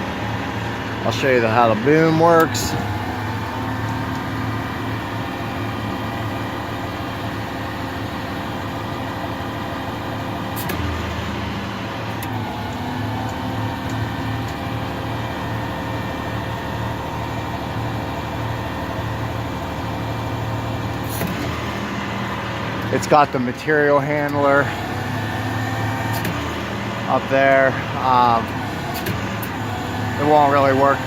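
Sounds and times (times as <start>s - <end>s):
truck engine droning: 0.0s - 31.0s.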